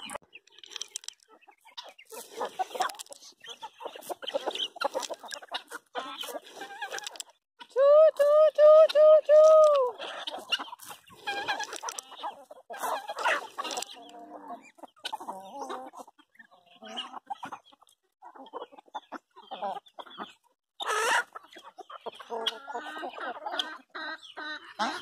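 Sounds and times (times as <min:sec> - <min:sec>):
chickens clucking and calling: 0:00.0 - 0:25.0.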